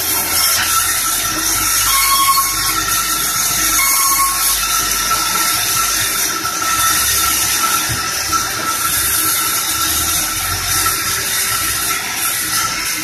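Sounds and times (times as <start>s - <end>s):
bandsaw mill hissing and whining: 0.0s - 13.0s.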